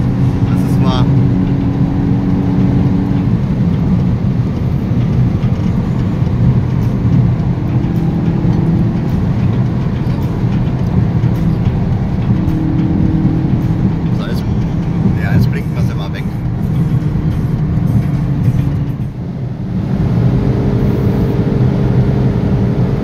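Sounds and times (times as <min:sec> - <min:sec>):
car engine cruising: 0:00.0 - 0:23.0
tyre and road noise: 0:00.0 - 0:23.0.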